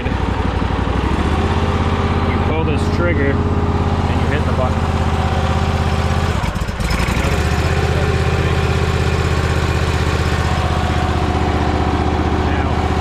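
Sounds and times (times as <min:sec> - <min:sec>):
spinning cutting wheel whine: 0:00.0 - 0:13.0
stump grinder engine running: 0:00.0 - 0:13.0.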